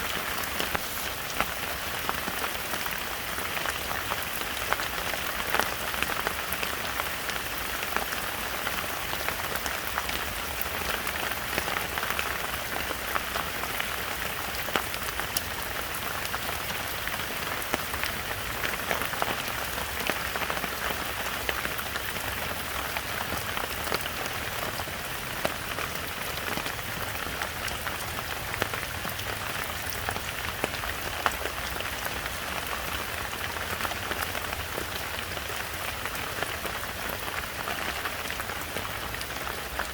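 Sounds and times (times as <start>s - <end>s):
close raindrop impacts: 0.0s - 39.9s
heavy rain in a forest: 0.0s - 39.9s.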